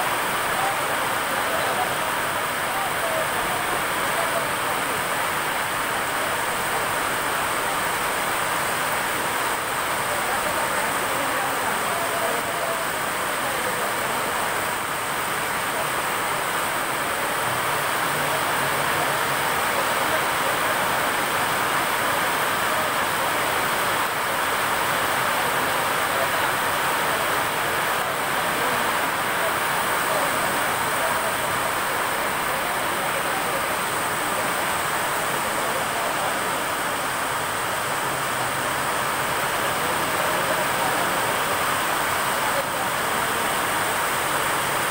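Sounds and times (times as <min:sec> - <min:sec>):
heavy rain on concrete: 0:00.0 - 0:44.9.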